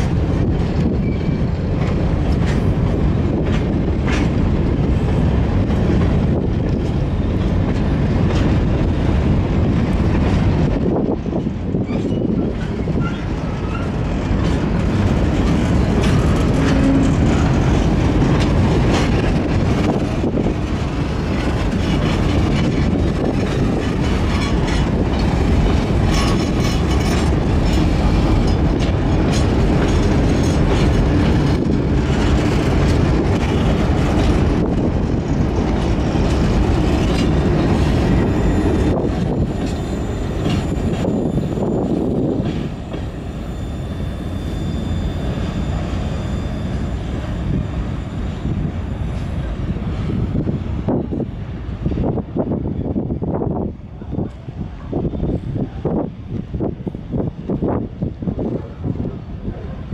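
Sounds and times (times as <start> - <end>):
wheels clattering over rail joints: 0.0 - 51.4
train wheels rumbling on rail: 0.0 - 59.9.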